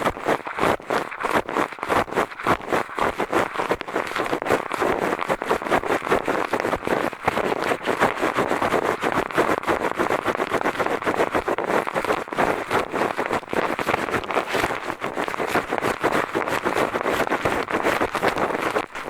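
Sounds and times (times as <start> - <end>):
eyeglasses scratching on microphone: 0.0 - 19.0.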